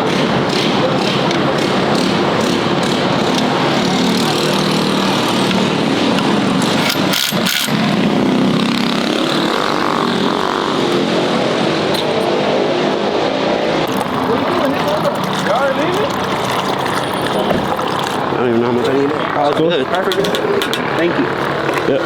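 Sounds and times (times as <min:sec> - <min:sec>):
mini bike engines revving: 0:00.0 - 0:22.0.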